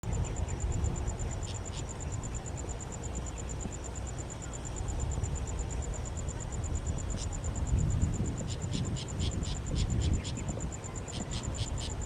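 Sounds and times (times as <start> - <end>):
insect pulsed trill: 0.0 - 12.0.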